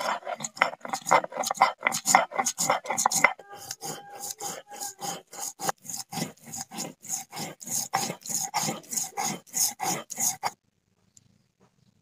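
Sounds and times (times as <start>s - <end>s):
stone roller grinding on stone: 0.0s - 10.6s.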